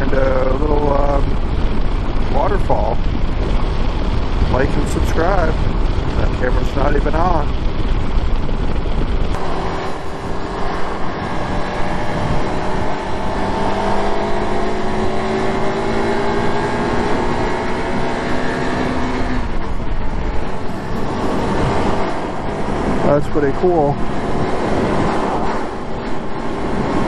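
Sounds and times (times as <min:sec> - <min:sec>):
car engine: 0:00.0 - 0:27.0
road noise: 0:00.0 - 0:27.0.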